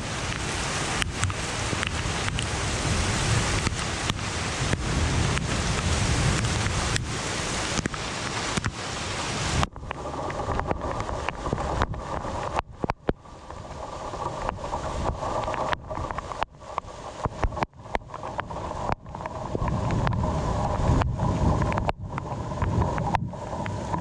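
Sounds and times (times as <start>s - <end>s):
heavy rain pouring: 0.0s - 24.0s
raindrops ticking close by: 0.0s - 24.0s.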